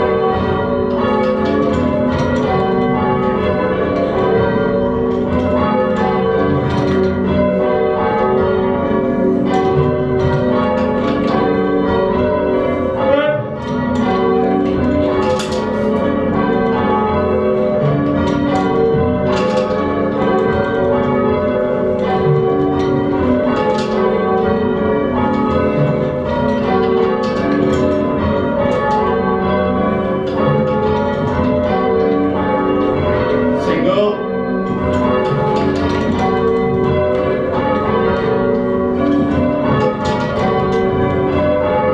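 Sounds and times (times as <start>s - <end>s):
church bells change ringing: 0.0s - 41.9s.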